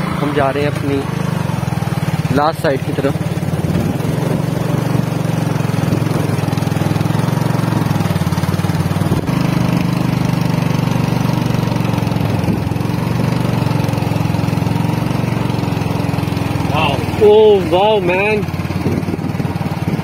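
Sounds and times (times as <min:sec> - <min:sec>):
small motorbike engine running: 0:00.0 - 0:20.0.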